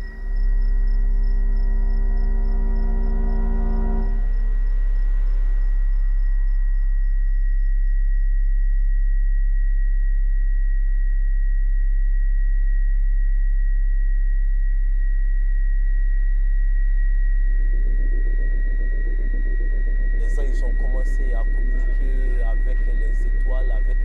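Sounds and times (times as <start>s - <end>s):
deep hum: 0.0s - 12.8s, 13.5s - 24.0s.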